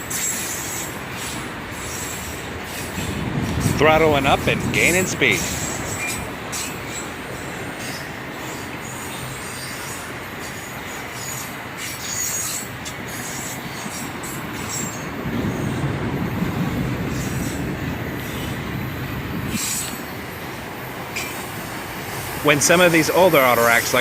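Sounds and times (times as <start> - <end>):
high wheel squeal: 0.0 - 15.8, 19.4 - 24.0
freight cars rumbling past: 0.0 - 24.0.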